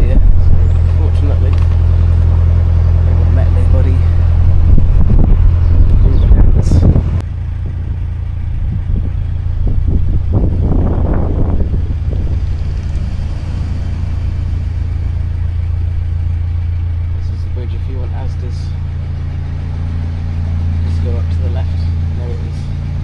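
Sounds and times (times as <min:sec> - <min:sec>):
boat diesel engine humming: 0:00.0 - 0:23.0.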